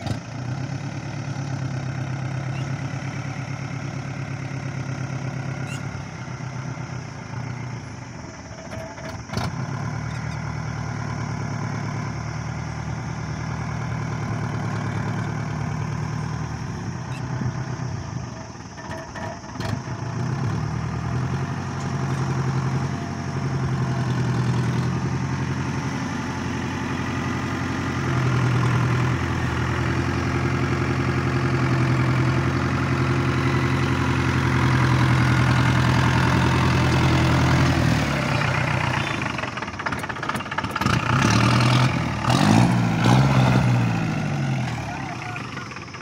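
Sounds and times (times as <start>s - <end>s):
diesel engine idling: 0.0s - 46.0s.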